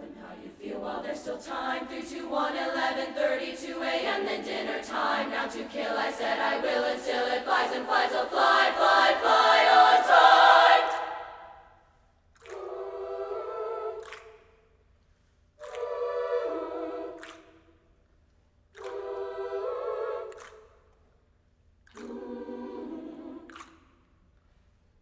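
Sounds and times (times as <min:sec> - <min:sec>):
a cappella voices singing chords: 0:00.0 - 0:11.7, 0:12.4 - 0:14.6, 0:15.6 - 0:17.8, 0:18.8 - 0:21.0, 0:21.9 - 0:24.1.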